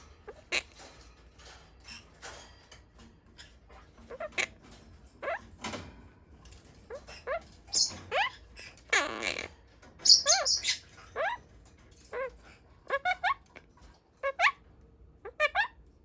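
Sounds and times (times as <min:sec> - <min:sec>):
parakeet chirping: 0:00.1 - 0:04.6, 0:05.2 - 0:05.5, 0:06.9 - 0:15.8.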